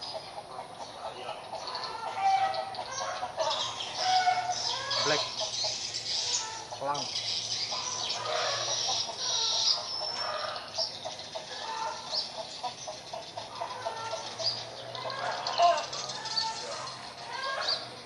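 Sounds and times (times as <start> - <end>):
bird clucking calls: 0.0 - 18.0.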